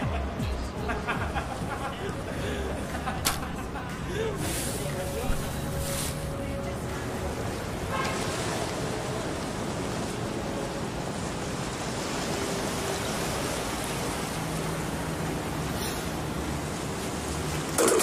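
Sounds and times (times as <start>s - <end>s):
waves along a sea wall: 0.0s - 18.0s.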